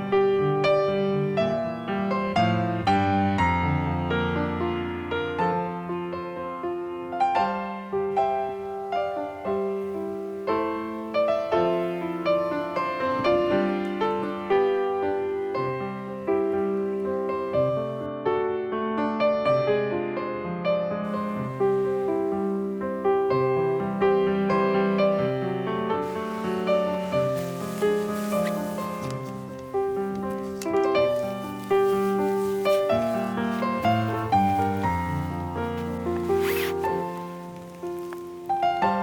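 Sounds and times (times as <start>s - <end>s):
gentle piano melody: 0.0s - 39.0s.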